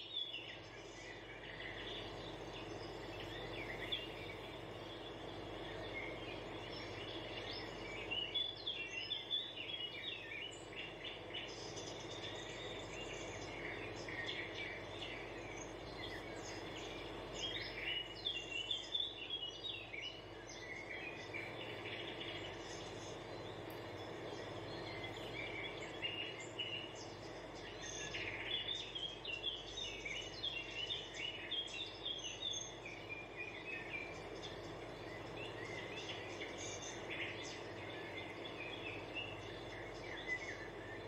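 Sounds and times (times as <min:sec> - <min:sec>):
birds chirping: 0:00.0 - 0:41.0
low background noise: 0:00.0 - 0:41.0.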